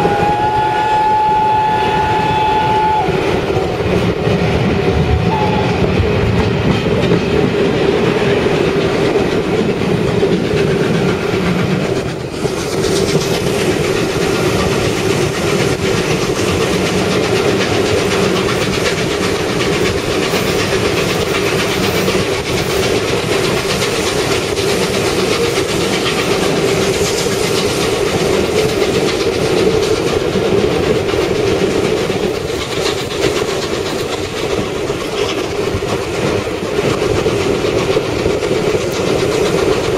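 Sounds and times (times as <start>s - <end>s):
train rumbling: 0.0s - 39.9s
wheels clicking over rail joints: 0.0s - 39.9s.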